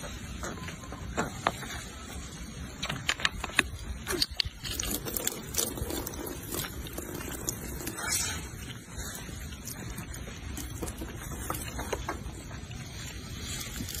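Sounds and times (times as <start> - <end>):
plastic bottle crackling: 2.8 - 14.0.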